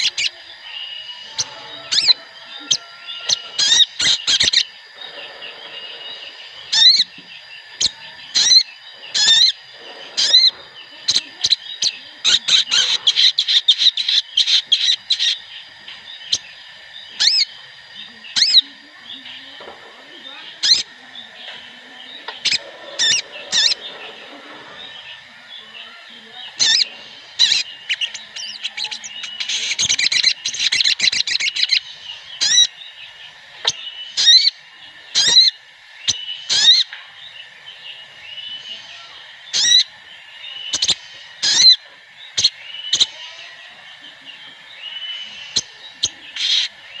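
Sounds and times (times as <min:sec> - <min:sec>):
rapid bird twittering: 0:00.0 - 0:47.0
sunbirds chirping: 0:00.0 - 0:47.0.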